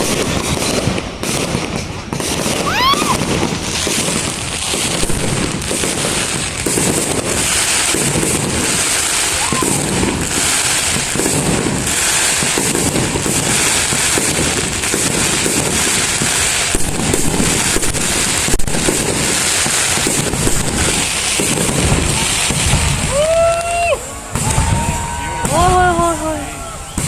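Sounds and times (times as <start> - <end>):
fireworks crackling and booming: 0.0 - 27.0
sharp firework crack: 0.0 - 27.0.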